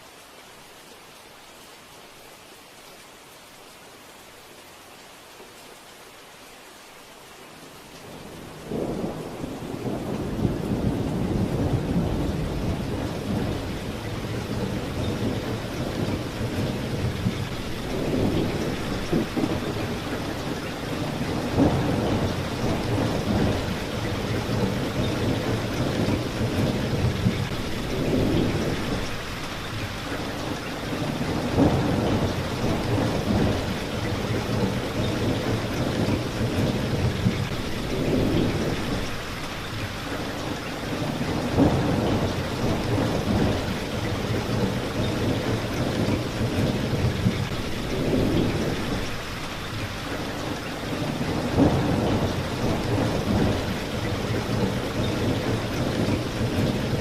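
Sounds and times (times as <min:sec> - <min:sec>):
rain falling: 0:00.0 - 0:57.0
thunder rumbling: 0:08.1 - 0:39.8, 0:41.0 - 0:57.0.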